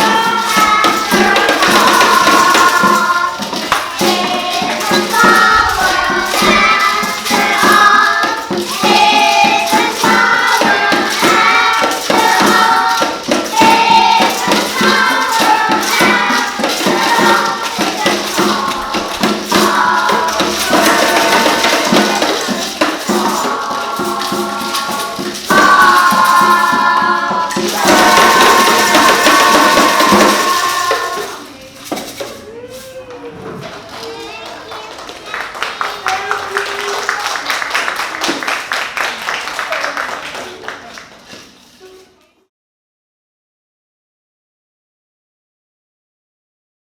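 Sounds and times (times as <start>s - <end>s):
children singing: 0.0s - 38.5s
shaken rattle percussion: 0.0s - 42.3s.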